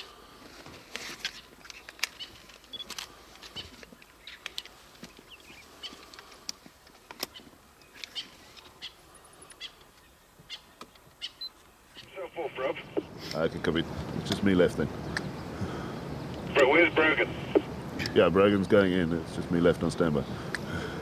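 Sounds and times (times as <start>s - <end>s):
birds chirping: 1.2s - 21.0s.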